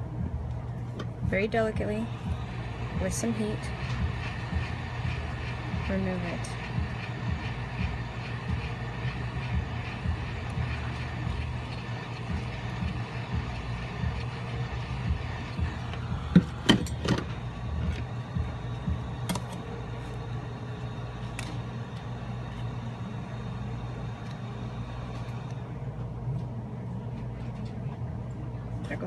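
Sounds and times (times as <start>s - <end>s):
heat gun blower humming: 1.1s - 26.5s.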